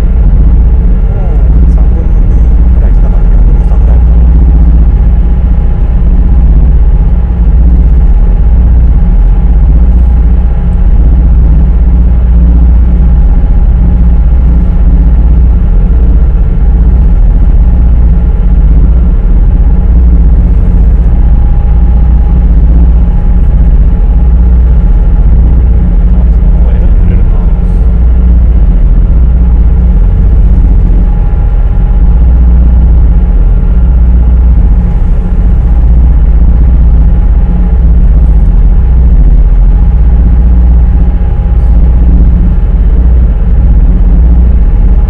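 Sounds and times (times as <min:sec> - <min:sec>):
faint steady hum: 0:00.0 - 0:45.0
ferry engines droning: 0:00.0 - 0:45.0.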